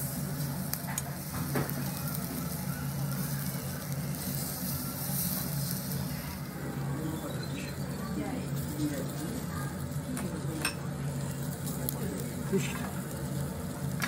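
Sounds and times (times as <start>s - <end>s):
constant low hum: 0.0s - 14.0s
meat sizzling on a grill: 0.0s - 14.0s.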